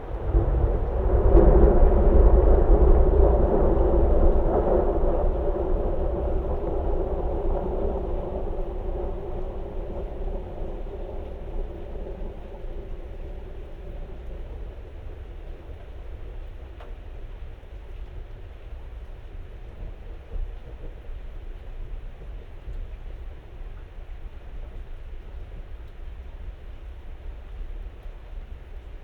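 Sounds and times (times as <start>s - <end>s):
thunder rumbling: 0.0s - 23.6s.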